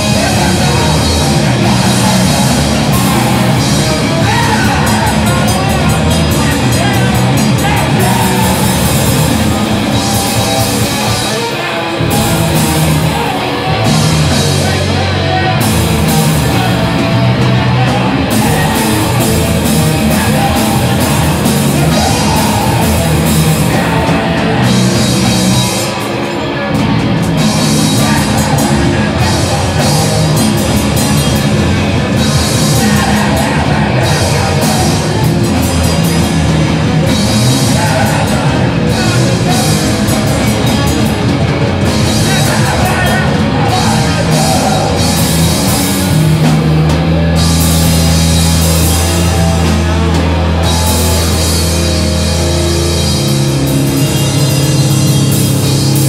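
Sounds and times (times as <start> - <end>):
drum kit with crashing cymbals: 0.0 - 56.0
electric guitars: 0.0 - 56.0.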